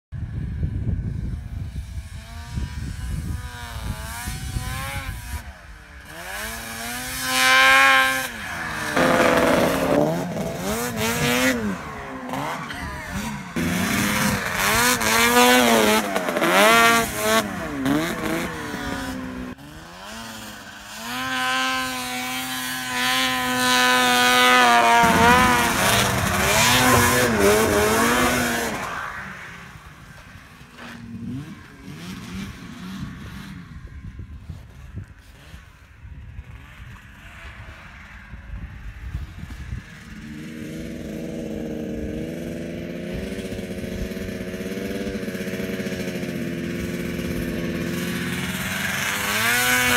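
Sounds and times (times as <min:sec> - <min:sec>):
snowmobile engine revving: 0:00.4 - 0:49.9.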